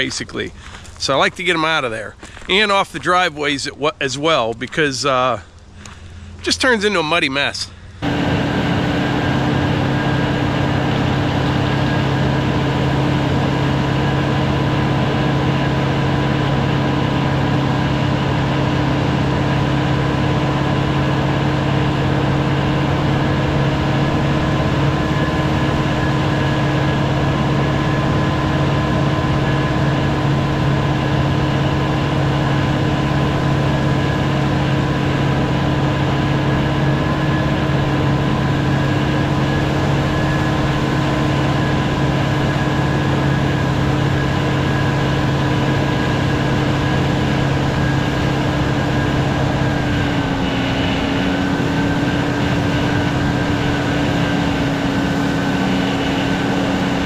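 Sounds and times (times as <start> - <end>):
steady low hum: 0.0 - 57.0
tractor diesel engine running: 0.0 - 57.0
thin constant whine: 4.2 - 57.0.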